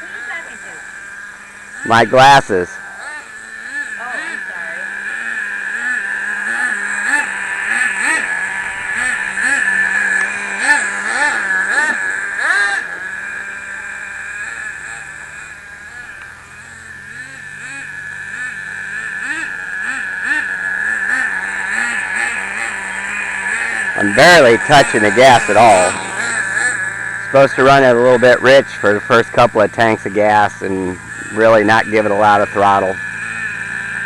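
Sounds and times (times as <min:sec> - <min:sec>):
small engine high whine: 0:00.0 - 0:34.0.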